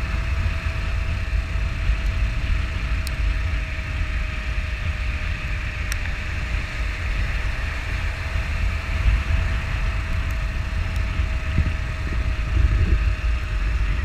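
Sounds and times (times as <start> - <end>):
motorcycle engine cruising: 0.0 - 14.0
wind rumble on microphone: 0.0 - 14.0.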